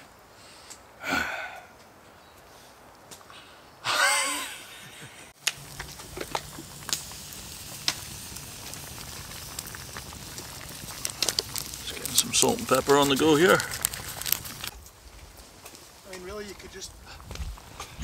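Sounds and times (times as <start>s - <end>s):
campfire crackling: 0.1s - 18.0s.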